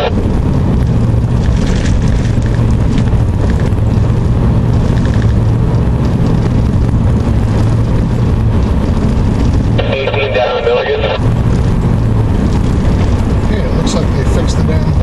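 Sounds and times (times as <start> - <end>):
truck engine hum: 0.0 - 15.0
tyre and road noise: 0.0 - 15.0.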